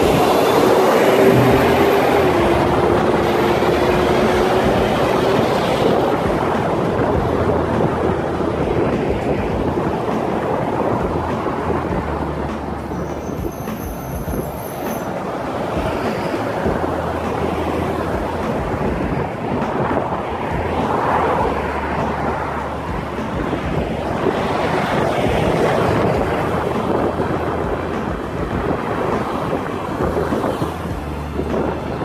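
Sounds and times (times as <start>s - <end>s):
road traffic: 0.0s - 32.0s
truck engine drone: 0.0s - 32.0s
wind noise on microphone: 0.0s - 32.0s.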